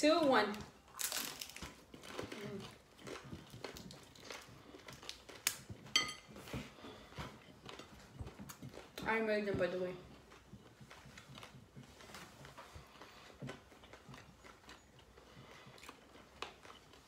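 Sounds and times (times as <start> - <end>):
people chewing crunchy food: 0.1 - 17.0.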